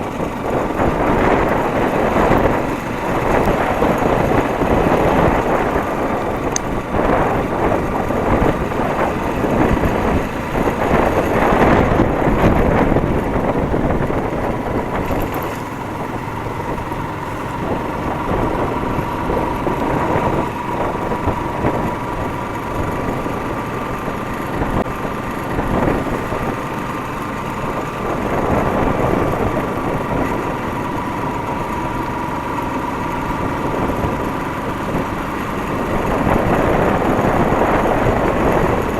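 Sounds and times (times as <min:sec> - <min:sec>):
motorcycle engine running: 0:00.0 - 0:38.9
road noise: 0:00.0 - 0:38.9.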